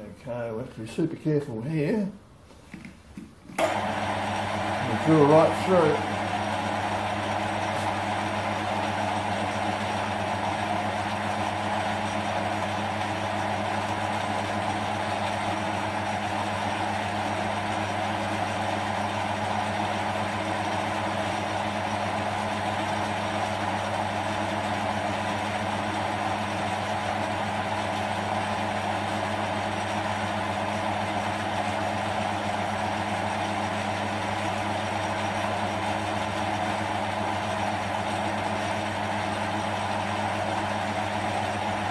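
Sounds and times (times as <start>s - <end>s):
metal lathe humming: 3.2s - 41.9s.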